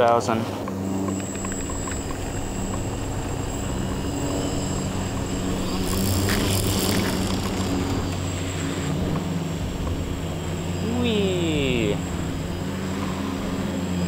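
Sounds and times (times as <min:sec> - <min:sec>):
quadcopter motors humming: 0:00.0 - 0:14.0
rushing hiss of swooping drone: 0:00.2 - 0:14.0.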